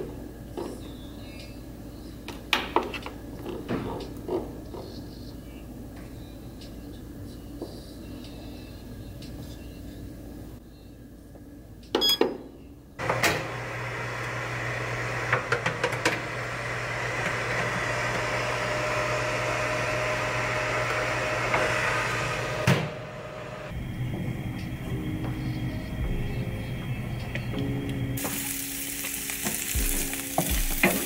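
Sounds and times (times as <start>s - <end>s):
convection fan whirring hum: 0.0s - 31.0s.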